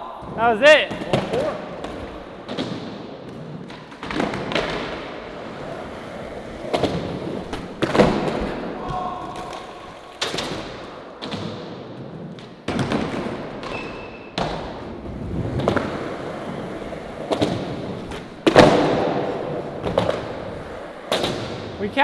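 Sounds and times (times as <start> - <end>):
skateboard wheels rolling: 0.0 - 22.0.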